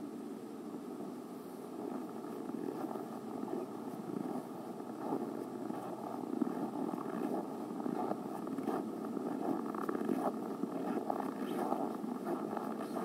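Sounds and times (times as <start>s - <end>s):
footsteps crunching in snow: 1.8s - 13.0s.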